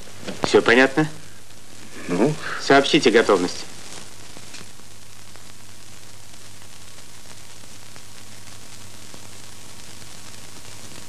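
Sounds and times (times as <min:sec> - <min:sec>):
static hiss: 0:00.0 - 0:11.0.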